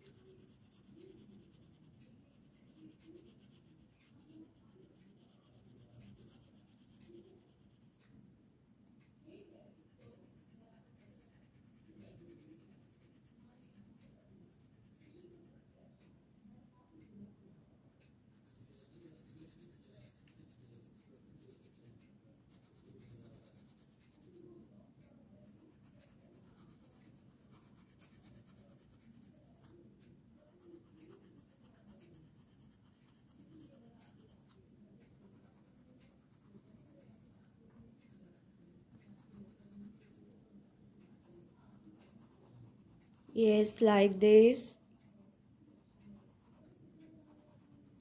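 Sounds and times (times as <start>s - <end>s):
pencil scratching on paper: 0.0s - 8.2s, 9.1s - 15.9s, 18.0s - 48.0s.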